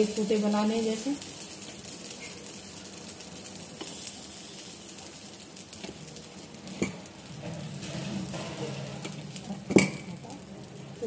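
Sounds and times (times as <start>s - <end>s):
batter sizzling in pan: 0.0s - 11.0s.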